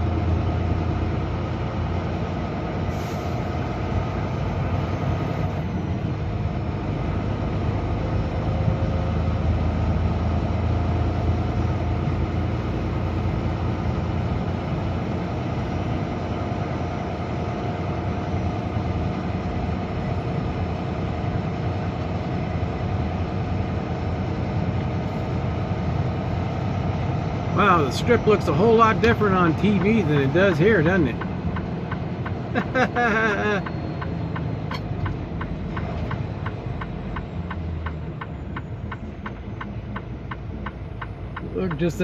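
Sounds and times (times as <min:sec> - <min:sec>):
road noise: 0:00.0 - 0:42.0
truck engine rumble: 0:00.0 - 0:42.0.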